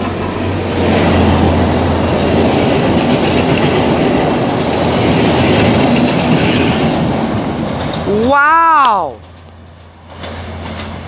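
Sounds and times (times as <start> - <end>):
train wheels clattering on rail: 0.0 - 8.2, 9.2 - 11.0
diesel locomotive engine drone: 0.0 - 11.0.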